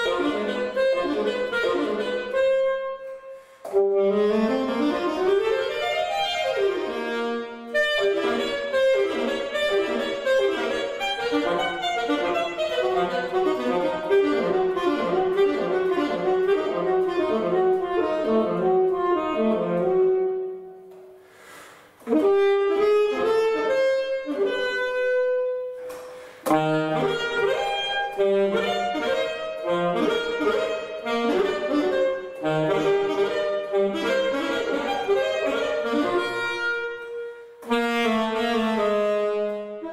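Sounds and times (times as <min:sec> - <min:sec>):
solo alto saxophone: 0:00.0 - 0:39.9.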